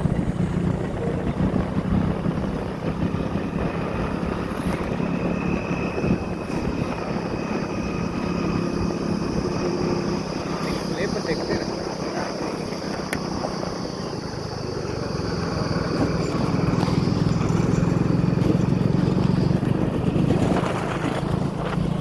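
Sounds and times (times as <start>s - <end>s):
motorcycle engine running: 0.0s - 22.0s
wind noise: 0.0s - 22.0s.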